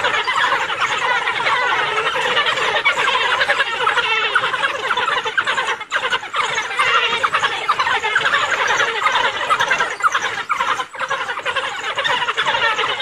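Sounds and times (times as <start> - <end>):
wild dogs twittering: 0.0 - 13.0.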